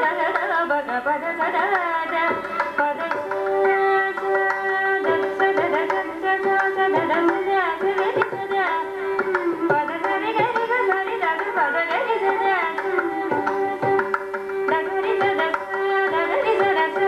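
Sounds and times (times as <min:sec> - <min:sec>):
violin: 0:00.0 - 0:17.0
woman singing: 0:00.0 - 0:17.0.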